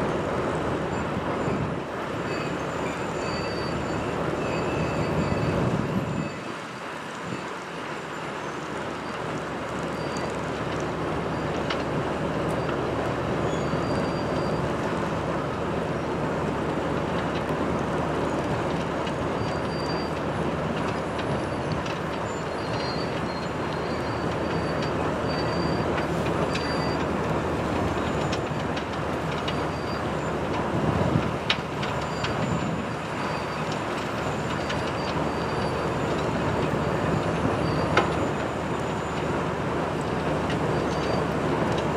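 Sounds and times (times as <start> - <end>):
train rumbling on track: 0.0 - 41.9
high wheel squeals: 0.9 - 11.8, 12.4 - 15.2, 18.2 - 41.9.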